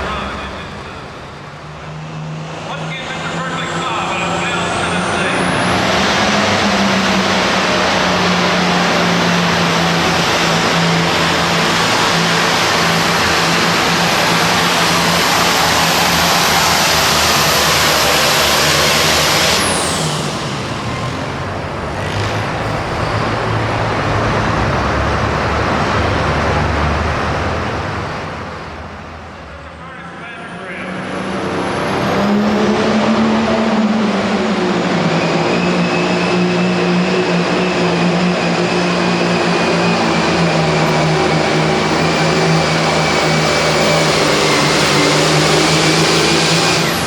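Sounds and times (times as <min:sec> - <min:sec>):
tractor engine with high whine: 0:00.0 - 0:47.0.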